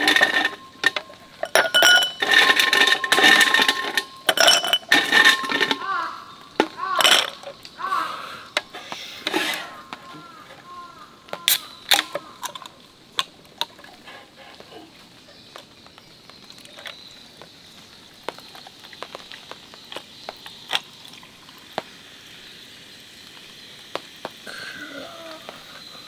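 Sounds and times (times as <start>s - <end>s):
ice clicking and popping: 0.0s - 22.0s
carbonated drink fizzing: 0.0s - 26.0s.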